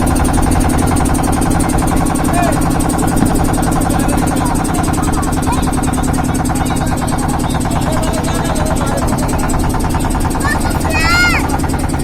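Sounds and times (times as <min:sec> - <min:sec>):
faint distant voices: 0:00.0 - 0:12.0
pulsing motor drone: 0:00.0 - 0:12.0.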